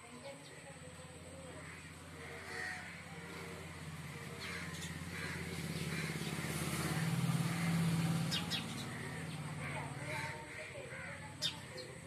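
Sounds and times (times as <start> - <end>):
engine humming: 0.0 - 12.0
small birds chirping: 0.0 - 12.0.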